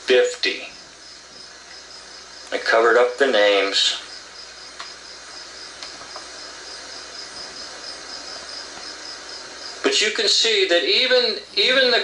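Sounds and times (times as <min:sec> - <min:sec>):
cricket chirping: 0:00.0 - 0:12.0
faint room hiss: 0:00.0 - 0:12.0.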